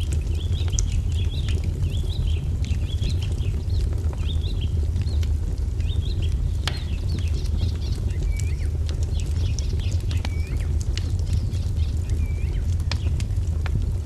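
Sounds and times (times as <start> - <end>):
songbirds chirping: 0.0 - 13.4
wood fire crackling: 0.0 - 14.0.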